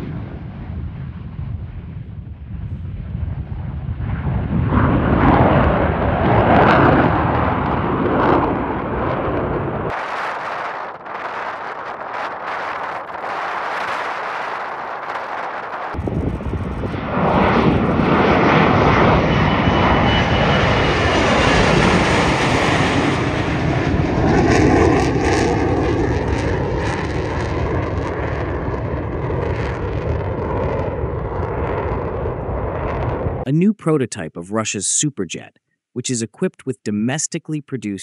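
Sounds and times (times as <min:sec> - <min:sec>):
deep rumble: 0:00.0 - 0:33.5
jet engines at takeoff: 0:00.0 - 0:33.5.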